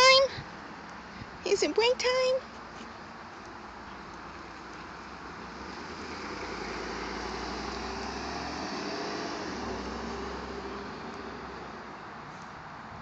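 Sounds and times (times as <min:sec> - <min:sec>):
passing vehicle rumble: 0:02.3 - 0:13.0.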